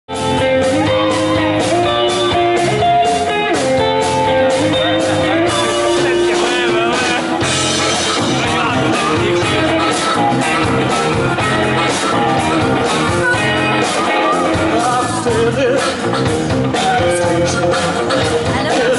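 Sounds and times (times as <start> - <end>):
electric guitar lead bending notes: 0.1 - 18.9
live blues band playing: 0.1 - 18.9.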